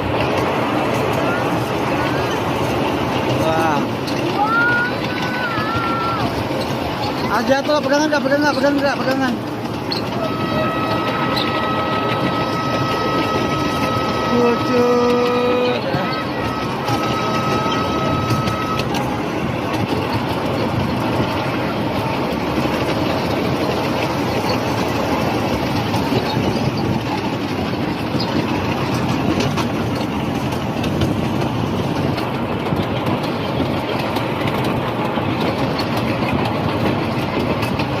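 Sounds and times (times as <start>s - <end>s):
train carriage rumbling and rattling: 0.0s - 38.0s.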